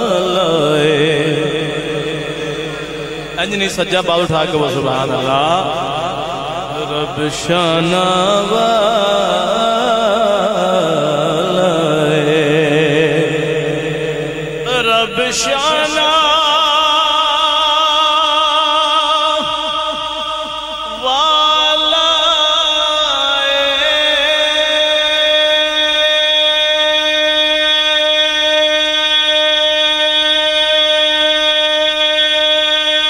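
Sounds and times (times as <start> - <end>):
man singing with vibrato: 0.0 - 33.0
sustained drone: 0.0 - 33.0.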